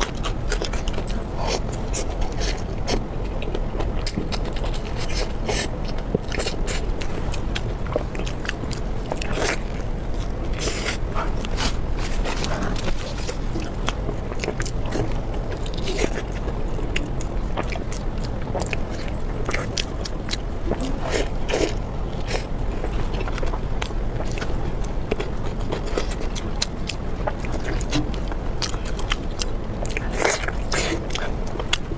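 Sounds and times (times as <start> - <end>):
person chewing food: 0.0 - 31.9.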